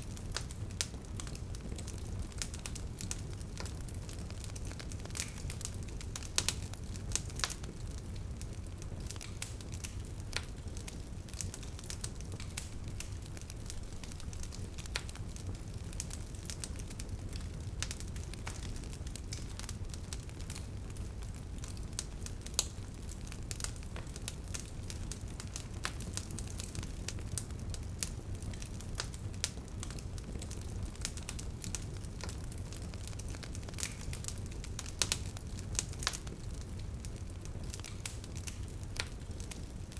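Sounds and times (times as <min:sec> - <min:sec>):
low rumble of burning: 0:00.0 - 0:39.9
wood fire crackling and popping: 0:00.0 - 0:39.9.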